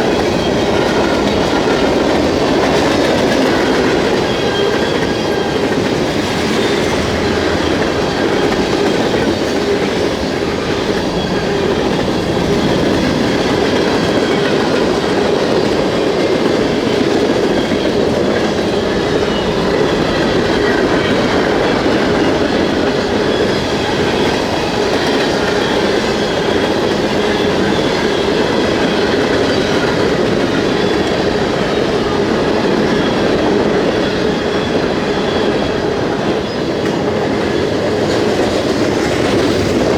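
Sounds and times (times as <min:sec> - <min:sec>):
freight train wheels rumbling on rails: 0:00.0 - 0:39.9
wheel squeal: 0:00.0 - 0:39.9.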